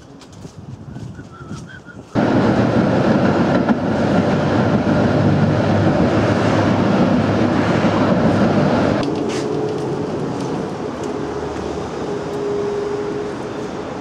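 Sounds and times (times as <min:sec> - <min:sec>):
moving vehicle rumbling: 0:00.8 - 0:14.0.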